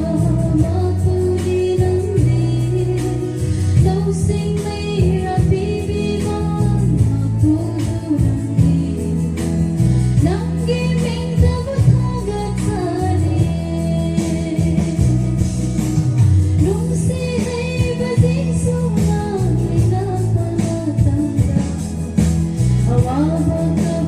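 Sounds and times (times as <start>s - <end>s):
woman singing: 0.0s - 15.8s, 16.6s - 24.0s
heavy bass notes: 0.0s - 24.0s
steady drum beat: 0.0s - 24.0s.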